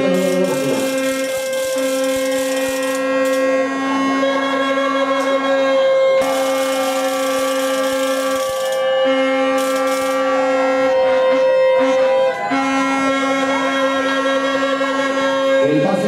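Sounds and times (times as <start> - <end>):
horns blowing long notes: 0.0 - 16.0.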